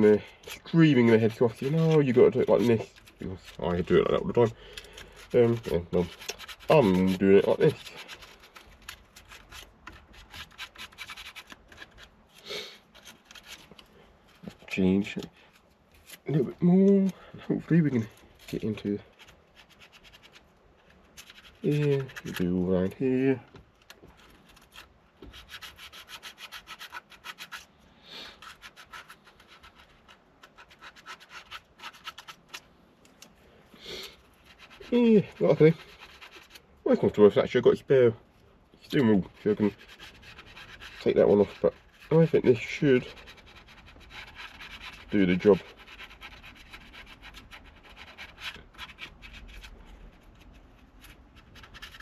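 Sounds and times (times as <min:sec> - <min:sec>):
sandpaper rubbing: 0:00.0 - 0:16.6, 0:17.6 - 0:23.0, 0:24.2 - 0:32.7, 0:33.8 - 0:37.4, 0:38.9 - 0:52.0.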